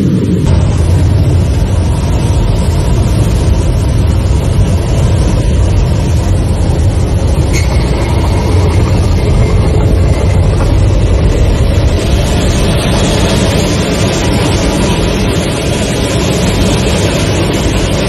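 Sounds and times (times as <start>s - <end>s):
rushing air and engines in cabin: 0.0s - 18.0s.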